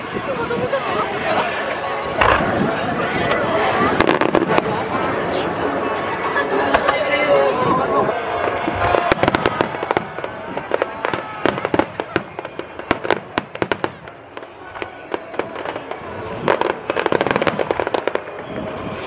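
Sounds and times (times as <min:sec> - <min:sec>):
fireworks popping and crackling: 0:00.0 - 0:05.1, 0:08.4 - 0:19.0.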